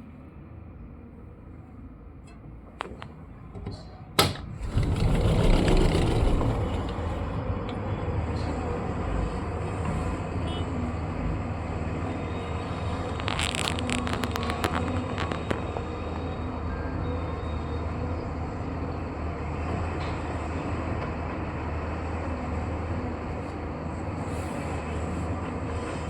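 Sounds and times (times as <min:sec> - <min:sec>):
excavator engine rumbling: 0:01.4 - 0:26.0.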